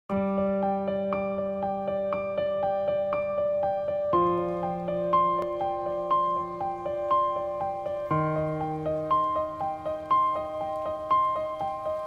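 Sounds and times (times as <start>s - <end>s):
gentle keyboard melody: 0.1s - 12.0s.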